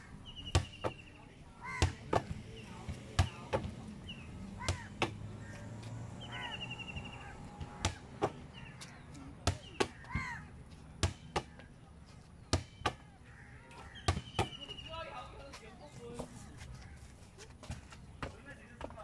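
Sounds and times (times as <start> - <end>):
birds calling: 0.0 - 18.4.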